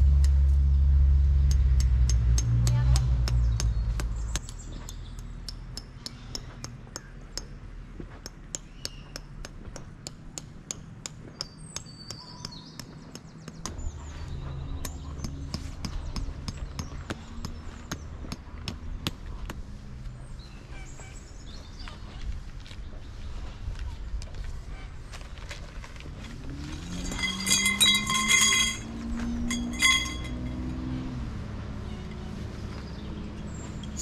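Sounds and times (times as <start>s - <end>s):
birds chirping: 3.2s - 34.0s.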